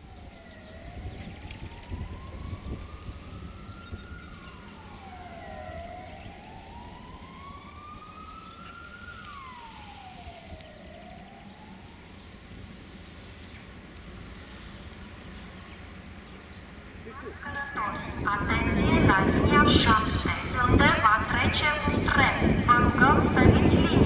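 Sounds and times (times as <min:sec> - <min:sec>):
wailing siren: 0:00.0 - 0:14.9, 0:16.9 - 0:24.0
steady low rumble: 0:00.0 - 0:24.0.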